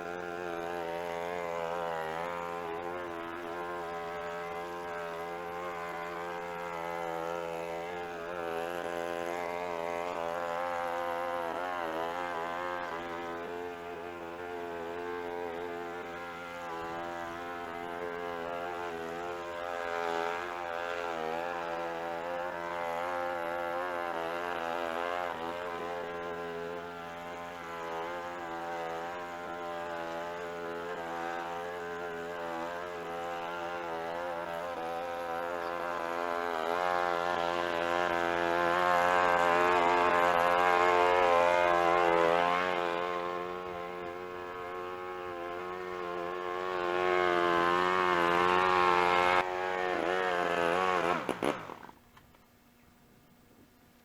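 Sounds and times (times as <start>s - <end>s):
small gasoline engine running: 0.0s - 52.4s.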